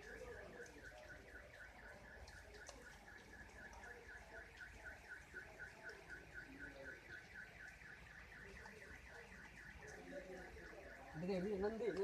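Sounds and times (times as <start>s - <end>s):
faint car alarm warbling: 0.0s - 12.0s.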